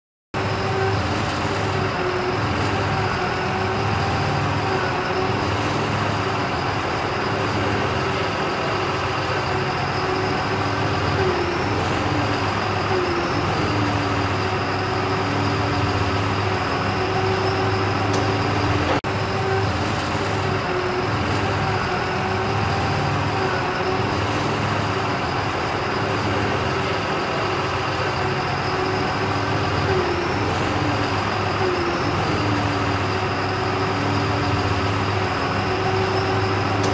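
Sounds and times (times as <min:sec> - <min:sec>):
forklift engine running: 0:00.4 - 0:36.9.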